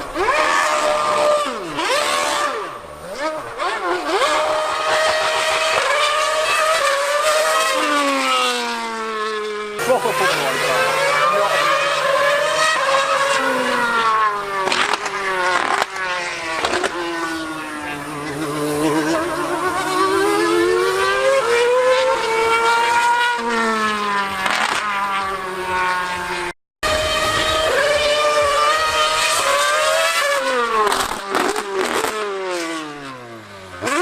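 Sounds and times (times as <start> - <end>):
racing car engine at high revs: 0.0 - 34.0.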